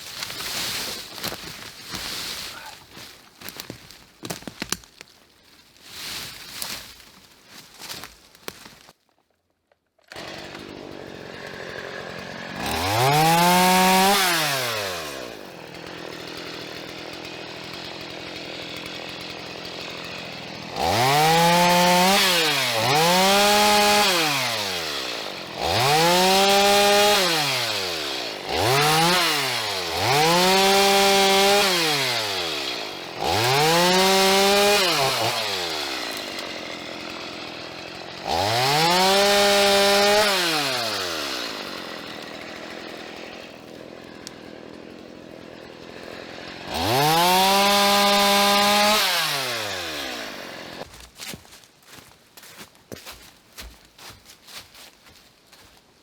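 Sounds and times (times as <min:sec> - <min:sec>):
chainsaw idling and revving: 0:00.0 - 0:04.8, 0:10.1 - 0:52.0.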